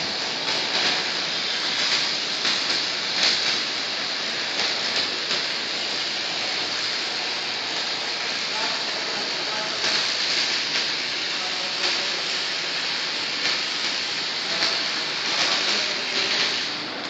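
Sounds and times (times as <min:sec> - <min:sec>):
arc welding crackling sizzle: 0:00.0 - 0:17.0
welding arc pops: 0:00.0 - 0:17.0.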